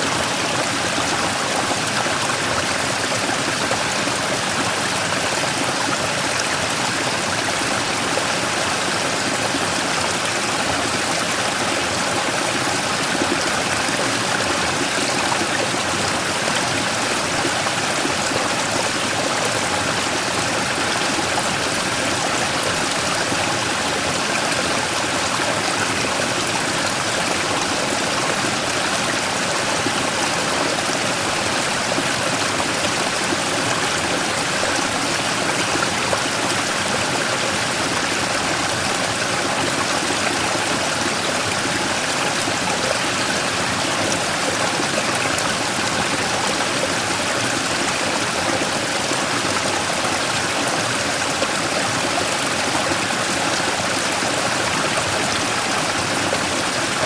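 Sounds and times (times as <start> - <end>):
stream rushing over rock: 0.0 - 57.0.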